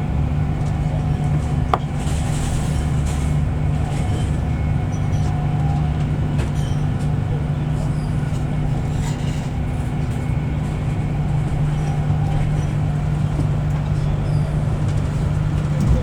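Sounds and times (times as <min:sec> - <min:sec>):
train interior running hum: 0:00.0 - 0:16.0.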